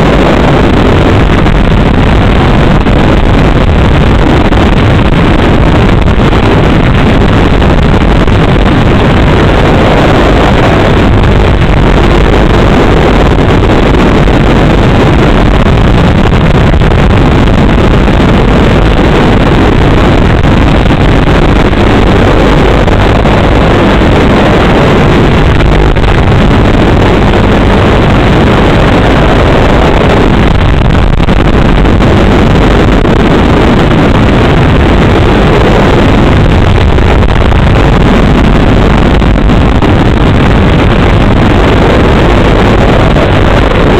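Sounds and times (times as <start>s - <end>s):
distorted rushing noise: 0.0s - 43.9s.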